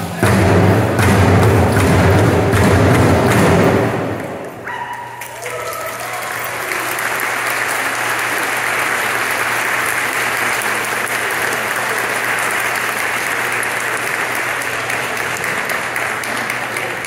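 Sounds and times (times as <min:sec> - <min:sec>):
audience applauding: 0:01.6 - 0:17.0.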